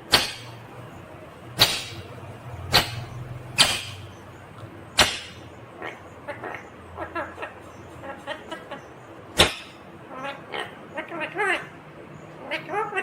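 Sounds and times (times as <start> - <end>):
parakeet chattering: 1.6 - 11.8, 12.4 - 13.0.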